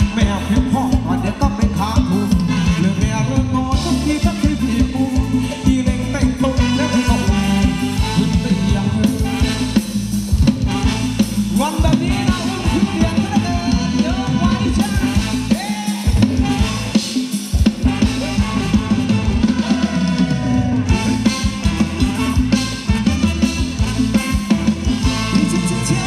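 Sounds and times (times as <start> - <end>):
drum kit beat: 0.0 - 26.0
live band playing dance music: 0.0 - 26.0.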